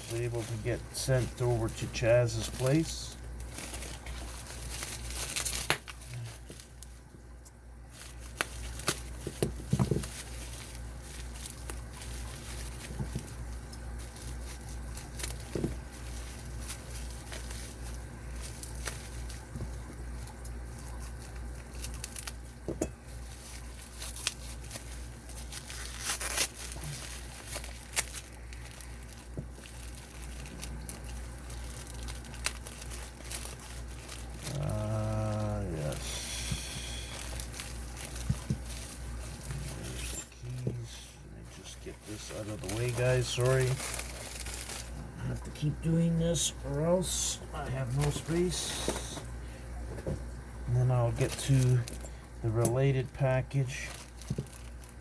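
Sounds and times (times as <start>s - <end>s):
packaging crinkling and tearing: 0.0s - 49.3s, 50.9s - 55.0s
low steady hum: 0.0s - 55.0s.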